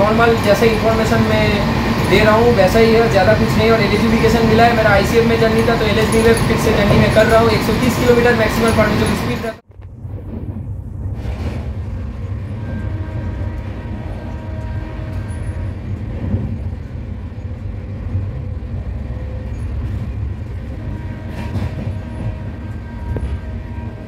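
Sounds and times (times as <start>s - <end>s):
train wheels rumbling on rails: 0.0s - 9.7s, 11.0s - 24.0s.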